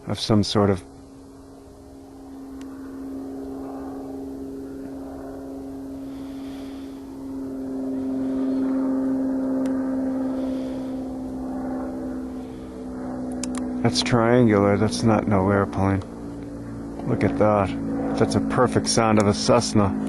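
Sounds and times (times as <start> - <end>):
propeller plane flying overhead: 0.0 - 20.0.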